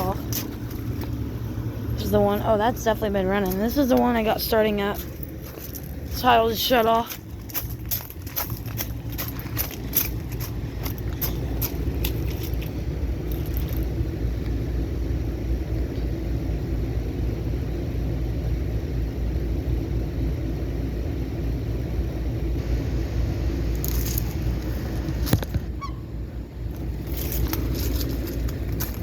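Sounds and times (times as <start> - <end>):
air conditioner units humming: 0.0 - 29.0.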